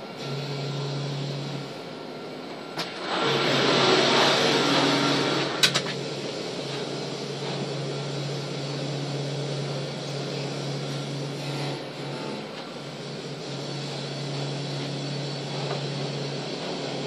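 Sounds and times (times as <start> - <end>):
grinding wheel grinding steel: 2.9 - 17.0.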